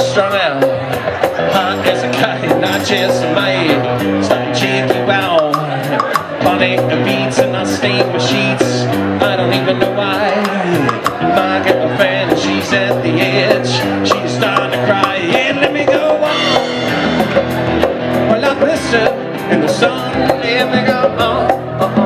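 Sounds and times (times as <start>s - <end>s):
man singing: 0.0s - 17.2s, 18.1s - 22.0s
acoustic guitar: 0.0s - 22.0s
hand drums: 0.0s - 22.0s.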